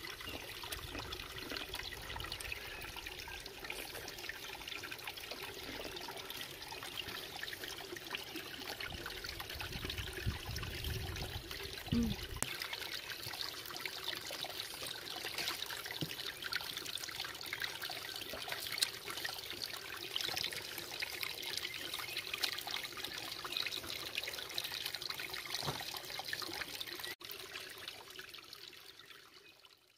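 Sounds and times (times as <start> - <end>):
water trickling and splashing: 0.0 - 29.9.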